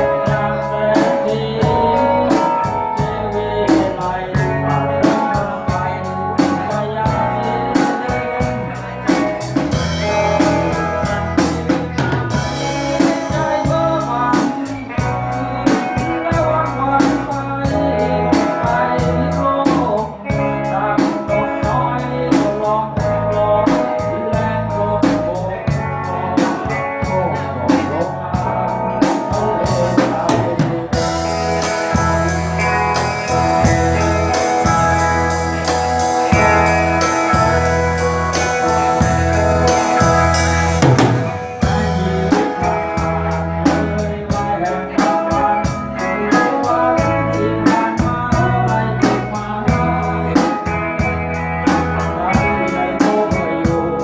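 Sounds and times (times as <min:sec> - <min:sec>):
drum kit beat: 0:00.0 - 0:54.0
live band music: 0:00.0 - 0:54.0.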